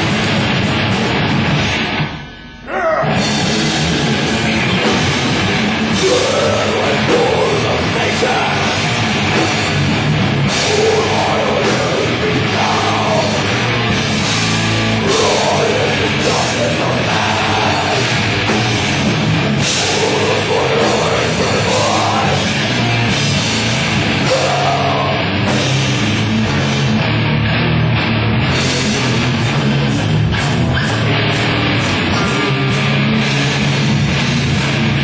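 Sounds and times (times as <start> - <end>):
heavy metal band playing live: 0.0 - 35.0.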